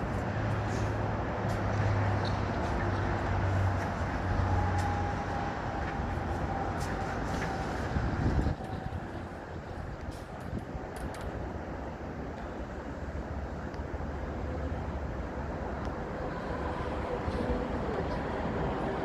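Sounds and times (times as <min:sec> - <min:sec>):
traffic noise: 0:00.0 - 0:19.0
vehicle engine rumble: 0:00.0 - 0:19.0.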